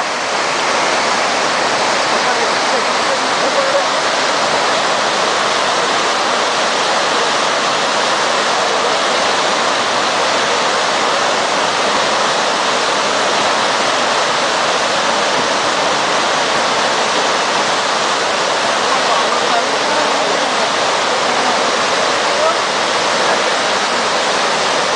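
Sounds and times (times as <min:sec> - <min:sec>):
steady rushing noise: 0:00.0 - 0:24.9.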